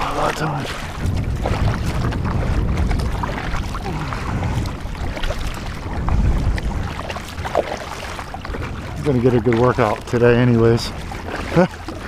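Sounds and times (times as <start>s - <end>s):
paddle splashing in water: 0.0s - 12.0s
wind buffeting microphone: 0.0s - 12.0s.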